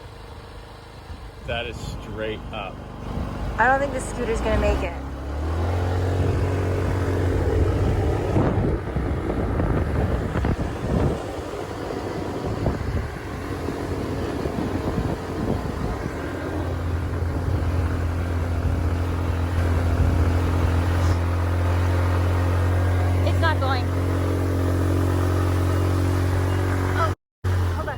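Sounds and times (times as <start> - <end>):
scooter engine under load: 0.0 - 27.9
rough rushing noise: 1.4 - 27.1.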